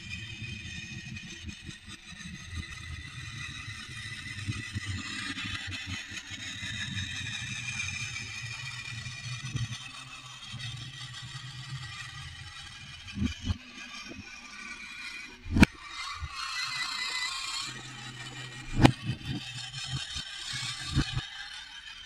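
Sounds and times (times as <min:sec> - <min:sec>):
toy robot motor whirring: 0:00.1 - 0:22.0.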